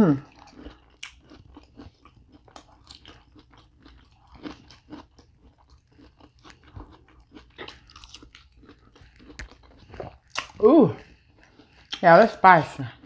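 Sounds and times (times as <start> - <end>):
chewing and biting bread: 0.1 - 12.2, 12.8 - 13.0.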